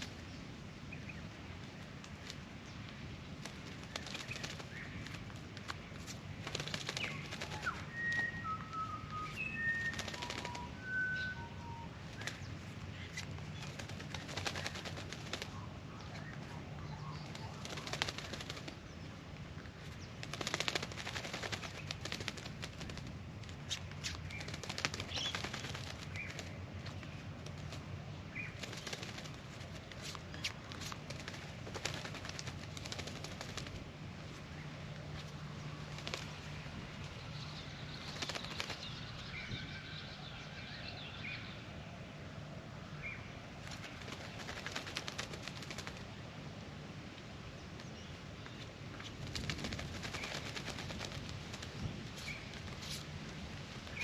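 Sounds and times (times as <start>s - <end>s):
feathers and wings fluttering: 0.0s - 39.4s, 43.5s - 46.4s, 47.8s - 54.0s.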